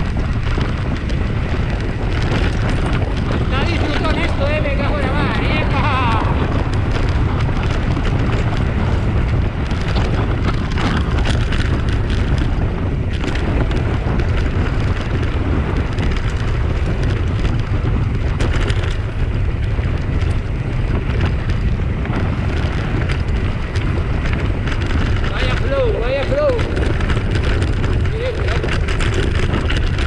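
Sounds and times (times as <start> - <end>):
bike clicks and rattles: 0.0 - 30.0
tyres rolling over dirt and stones: 0.0 - 30.0
wind rumble on microphone: 0.0 - 30.0.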